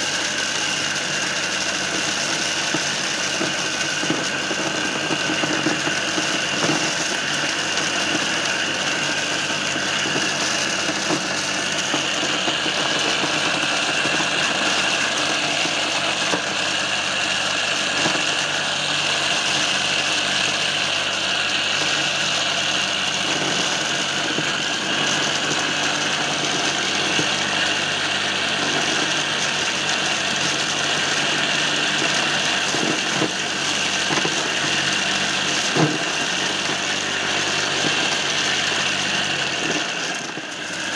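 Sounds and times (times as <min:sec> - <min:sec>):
corn sheller whining: 0:00.0 - 0:40.9.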